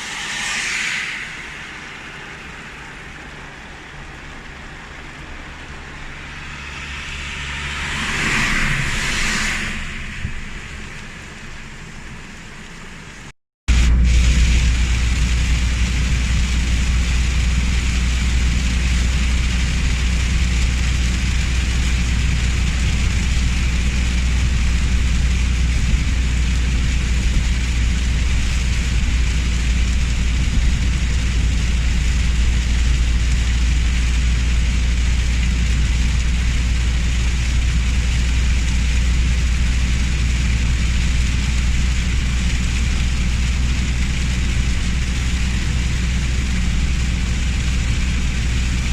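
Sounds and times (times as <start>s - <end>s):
heavy rain hissing: 0.0s - 48.9s
low vehicle rumble: 0.0s - 48.9s.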